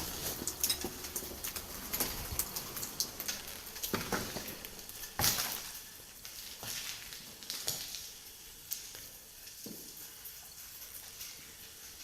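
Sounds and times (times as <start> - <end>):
footsteps on debris crackling: 0.0 - 10.0.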